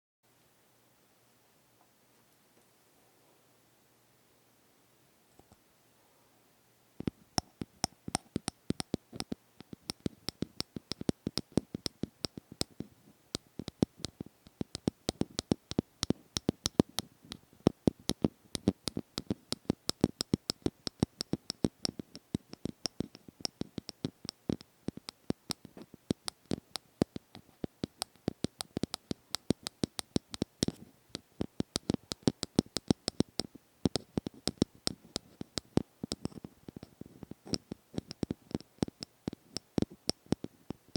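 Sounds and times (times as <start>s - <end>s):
quick irregular tapping: 7.0s - 40.9s.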